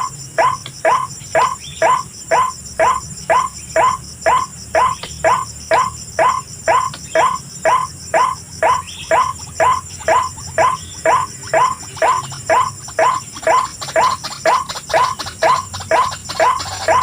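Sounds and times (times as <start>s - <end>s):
faint high insect drone: 0.0s - 17.0s
waterhen harsh calls: 0.0s - 17.0s.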